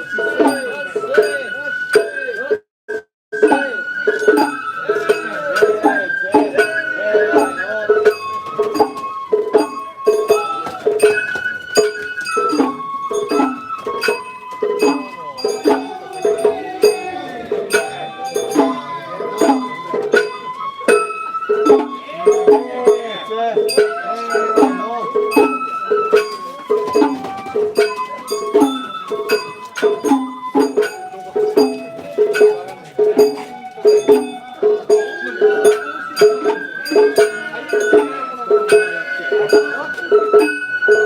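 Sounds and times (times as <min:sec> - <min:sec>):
bamboo flute melody: 0:00.0 - 0:41.0
drum strikes: 0:00.0 - 0:41.0.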